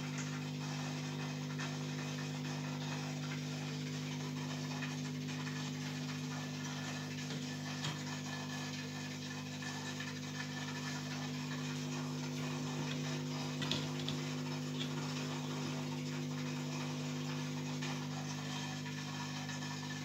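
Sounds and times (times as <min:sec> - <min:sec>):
aquarium equipment humming: 0:00.0 - 0:20.0.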